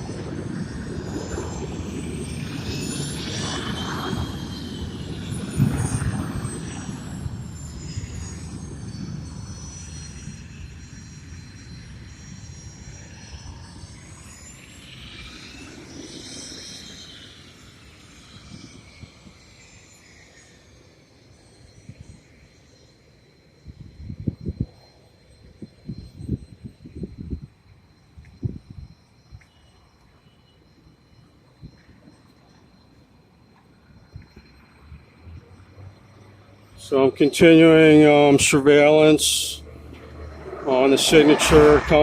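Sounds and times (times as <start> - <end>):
airplane engines whining: 0.0 - 42.0.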